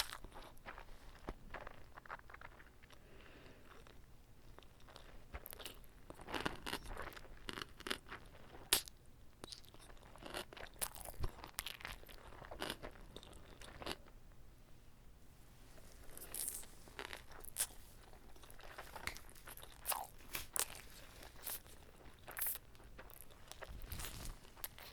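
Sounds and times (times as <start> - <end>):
close chewing with wet crunches: 0.0 - 14.0, 16.1 - 24.9.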